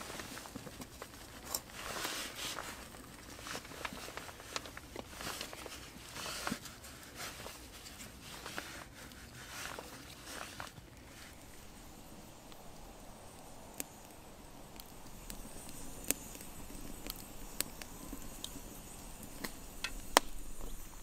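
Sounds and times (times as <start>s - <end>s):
fire crackling: 0.0s - 21.0s
rustling: 0.0s - 21.0s.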